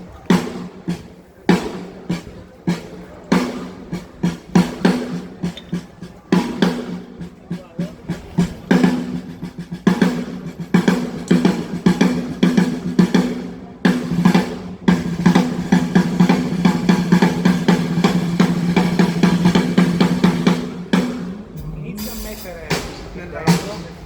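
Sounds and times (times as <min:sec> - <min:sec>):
drum kit rolls: 0:00.0 - 0:24.0.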